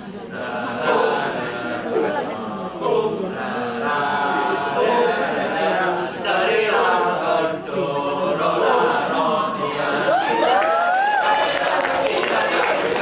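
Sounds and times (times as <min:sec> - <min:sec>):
men chanting in chorus: 0:00.1 - 0:10.6, 0:11.4 - 0:13.0.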